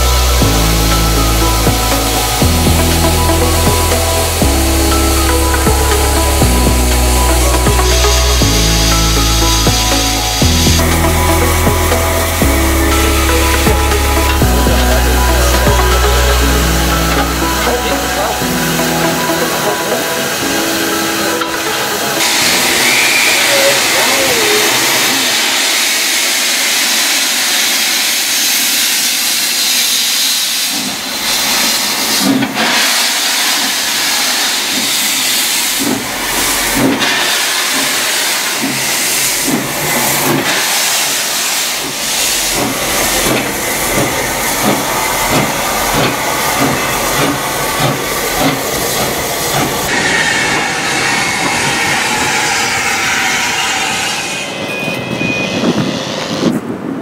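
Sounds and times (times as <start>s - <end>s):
steam exhaust chuffs: 0.0s - 56.8s
steam locomotive hissing: 0.0s - 57.0s.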